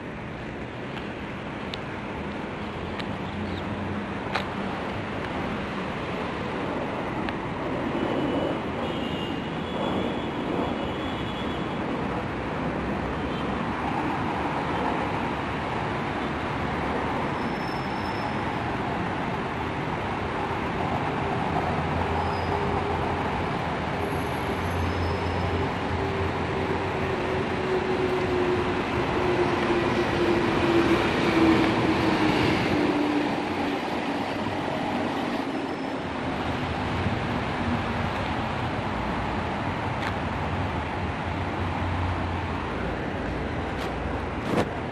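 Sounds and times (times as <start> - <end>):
rumble of moving vehicles: 0.0 - 44.9.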